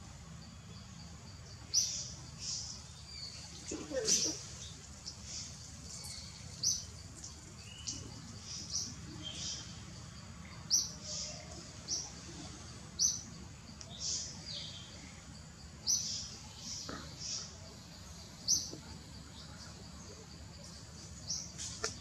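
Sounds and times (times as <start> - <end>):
birds chirping: 0.4 - 22.0.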